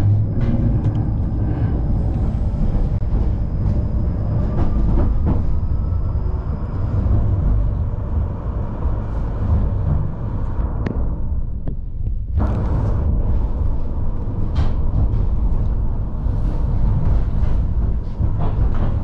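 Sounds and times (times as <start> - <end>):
tram wheels rumbling on track: 0.0 - 19.0.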